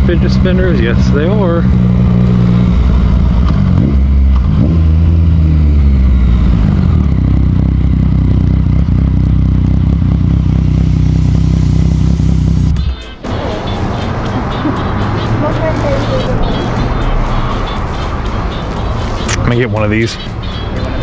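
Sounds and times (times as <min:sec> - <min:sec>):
motorcycle engine low revving: 0:00.0 - 0:18.9.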